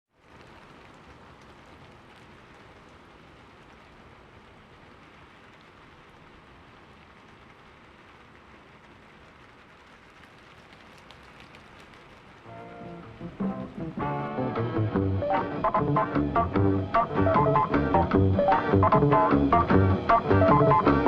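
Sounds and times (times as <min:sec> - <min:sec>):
faint steady rain: 0:00.1 - 0:21.0.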